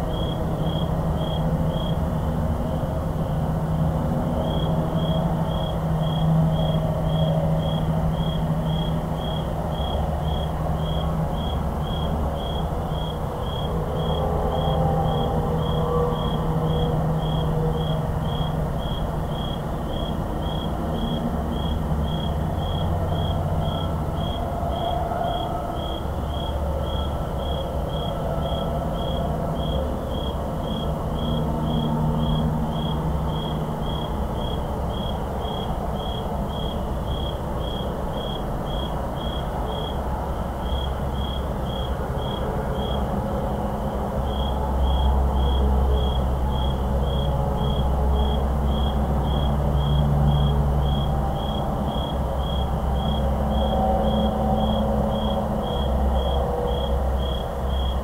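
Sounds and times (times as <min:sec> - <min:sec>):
cricket chirping: 0:00.0 - 0:58.0
distant highway traffic rumble: 0:00.0 - 0:58.0.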